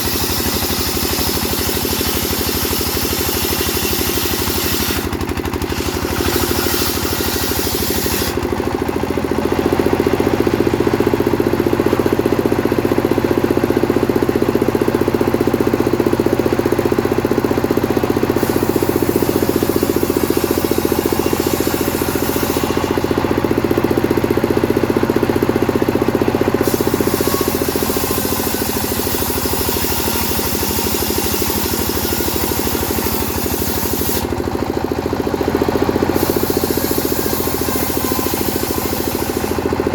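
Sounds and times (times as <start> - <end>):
chainsaw sawing wood: 0.0 - 39.9.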